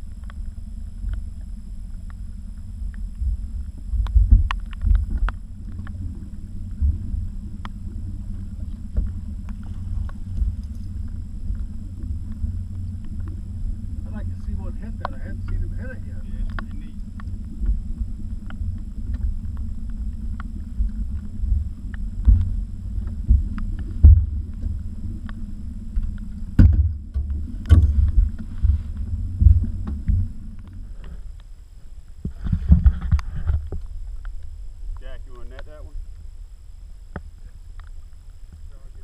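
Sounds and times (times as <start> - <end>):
knocks and thumps in boat: 0.0 - 31.4, 32.1 - 34.5
boat low hum: 0.0 - 39.0.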